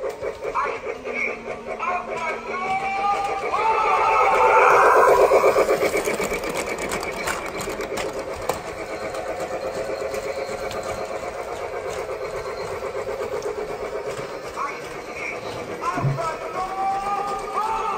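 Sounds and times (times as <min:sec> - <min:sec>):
toy train chugging and whirring: 0:00.0 - 0:17.9.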